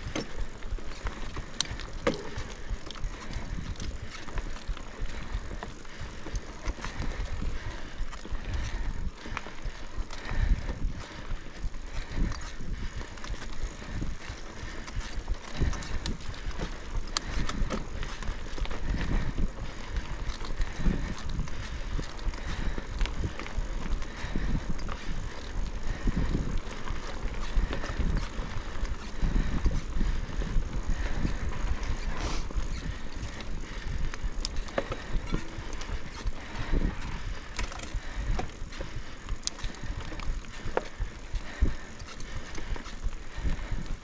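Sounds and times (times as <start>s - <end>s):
bike clicks and rattles: 0.0s - 44.0s
tyres rumbling on dirt trail: 0.0s - 44.0s
wind: 0.0s - 44.0s.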